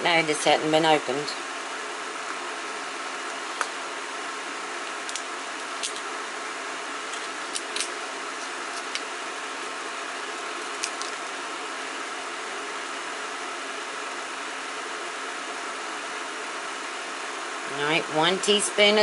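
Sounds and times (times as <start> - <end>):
cooling fan whirring: 0.0 - 19.0.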